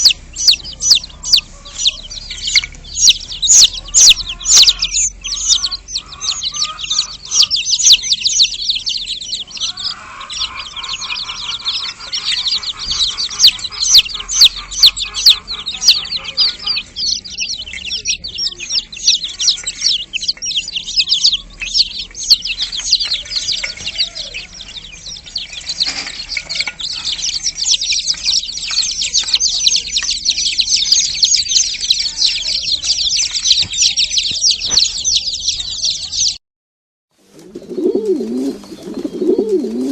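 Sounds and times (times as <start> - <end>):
chickens clucking: 0.0 - 36.4, 37.3 - 39.9
rapid high-pitched chirping: 0.0 - 36.4.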